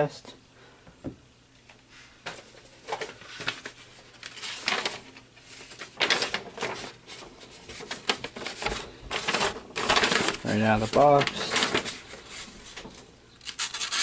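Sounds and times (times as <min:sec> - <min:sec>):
paper rustling and crinkling: 0:02.2 - 0:14.0.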